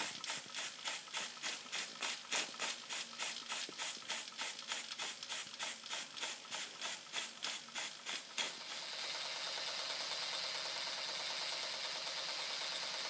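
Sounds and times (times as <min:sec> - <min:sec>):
steam hissing: 0:00.0 - 0:13.0
toy steam engine puffing: 0:00.0 - 0:13.0.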